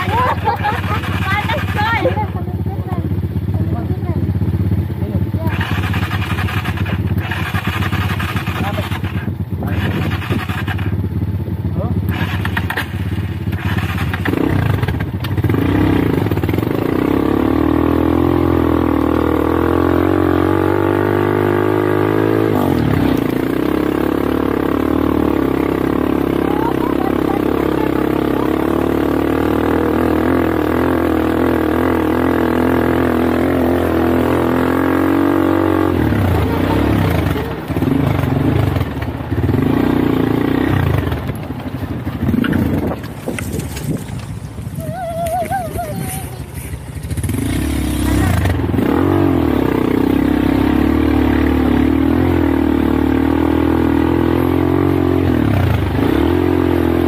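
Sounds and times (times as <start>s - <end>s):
atv engine running under load: 0.0s - 57.0s.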